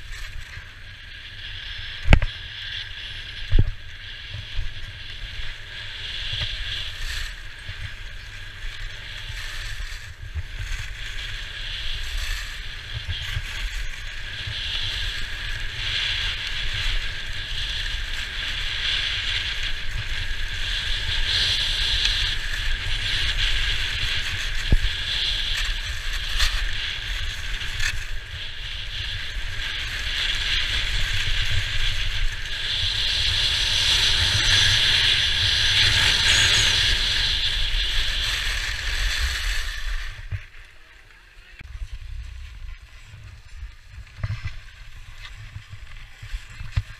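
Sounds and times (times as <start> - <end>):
wind buffeting microphone: 0.0 - 40.6
skis scraping over snow: 0.0 - 46.9.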